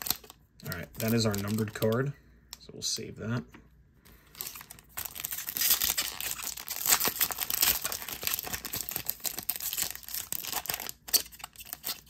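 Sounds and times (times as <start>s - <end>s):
card pack wrappers crinkling: 0.0s - 2.1s, 4.1s - 12.0s.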